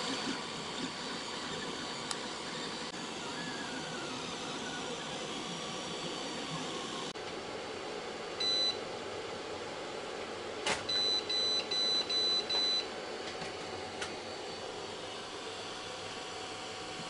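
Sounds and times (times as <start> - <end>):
fan whirring: 0.0 - 17.0.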